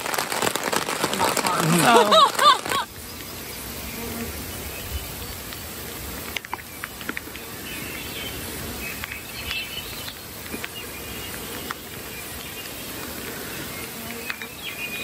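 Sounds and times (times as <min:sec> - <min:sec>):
insects buzzing and chirping: 0:00.0 - 0:15.0
outdoor hiss: 0:00.0 - 0:15.0.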